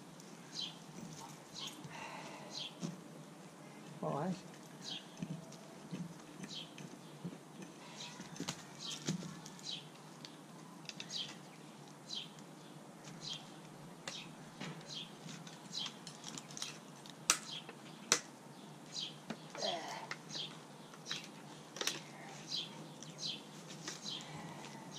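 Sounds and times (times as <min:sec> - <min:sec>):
small birds chirping: 0:00.2 - 0:24.9.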